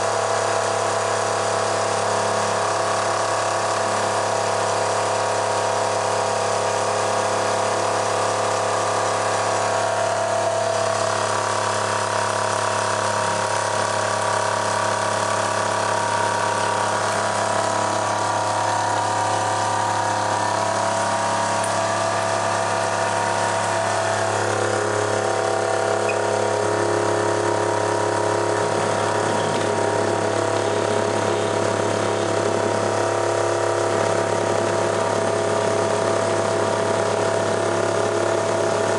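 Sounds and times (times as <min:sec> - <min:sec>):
motor spinning alternator whine: 0:00.0 - 0:38.9.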